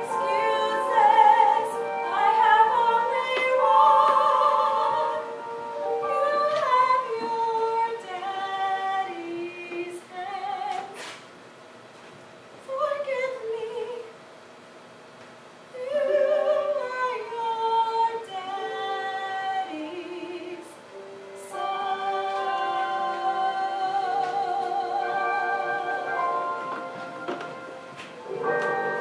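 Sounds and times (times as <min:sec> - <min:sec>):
woman singing with vibrato: 0:00.0 - 0:11.2, 0:12.6 - 0:14.2, 0:15.7 - 0:26.9, 0:28.2 - 0:29.0.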